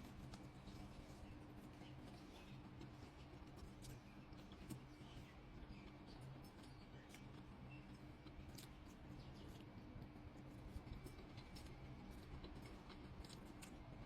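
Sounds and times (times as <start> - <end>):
quiet eating clicks: 0.0 - 14.0.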